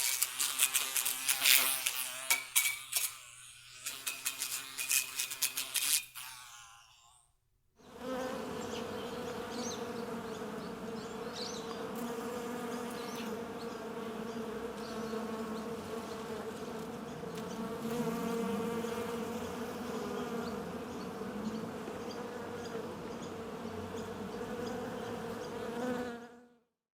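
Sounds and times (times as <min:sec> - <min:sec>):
flies buzzing: 0:00.0 - 0:26.6.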